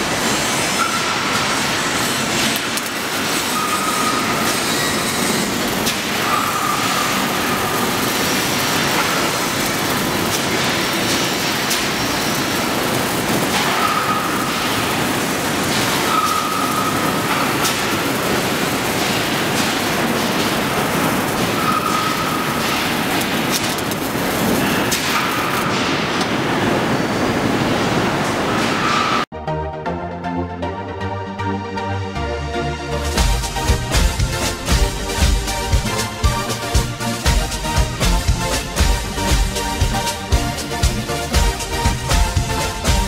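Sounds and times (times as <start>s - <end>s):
welding crackling hiss: 0.0s - 28.9s, 33.0s - 43.0s.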